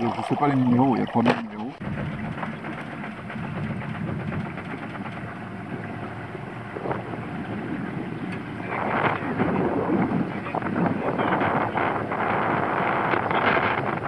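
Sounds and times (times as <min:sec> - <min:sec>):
outboard motor running: 0:00.0 - 0:14.0
water rushing: 0:00.0 - 0:14.0.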